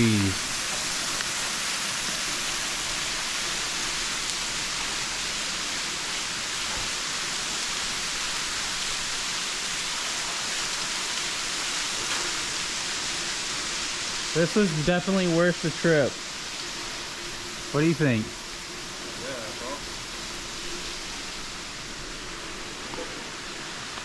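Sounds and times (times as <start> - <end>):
waterfall splashing: 0.0 - 24.0.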